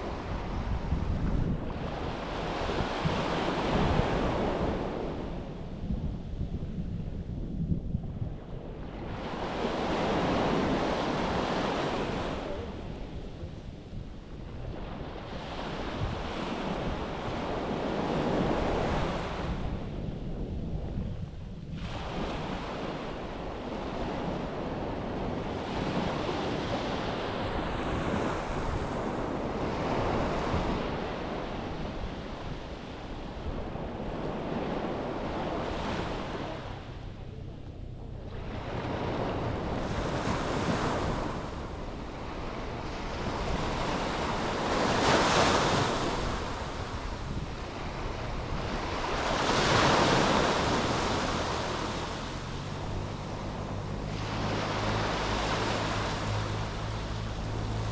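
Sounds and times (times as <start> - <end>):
sea waves breaking on beach: 0.0 - 5.7, 8.9 - 13.6, 14.2 - 20.0, 21.7 - 37.2, 38.3 - 57.9
wind buffeting microphone: 0.0 - 57.9.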